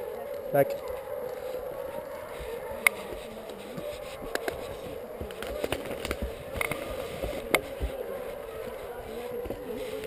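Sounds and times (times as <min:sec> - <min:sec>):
hounds baying: 0:00.0 - 0:10.0.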